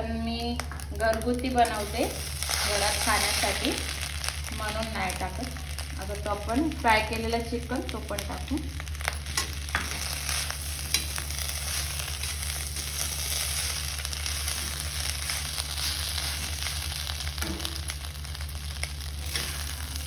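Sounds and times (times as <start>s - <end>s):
food sizzling in a pan: 0.0s - 20.0s
steady low hum: 0.0s - 20.0s.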